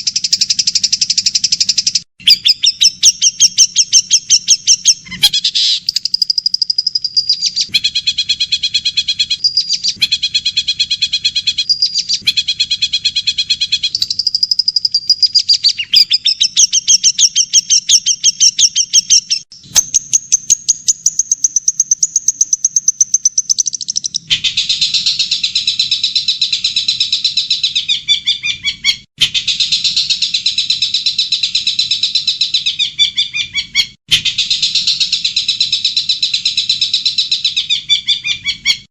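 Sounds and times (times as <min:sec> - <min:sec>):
recorded songbird chirps and trills: 0:00.0 - 0:38.9.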